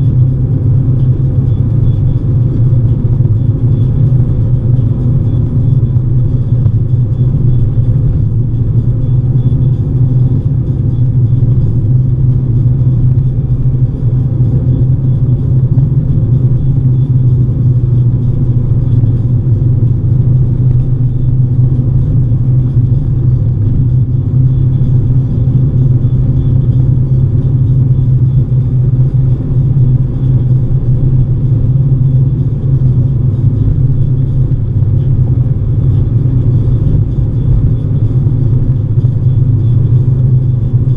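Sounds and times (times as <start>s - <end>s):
car driving on highway: 0.0s - 40.9s.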